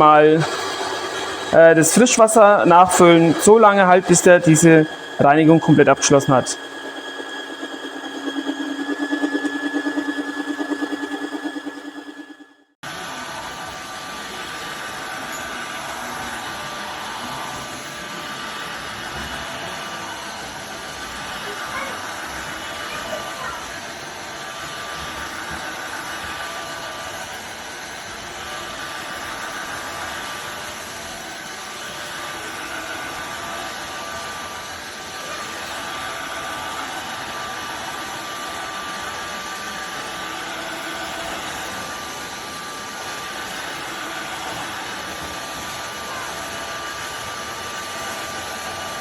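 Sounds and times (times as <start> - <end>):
floor cleaner motor whine: 0.0 - 49.0.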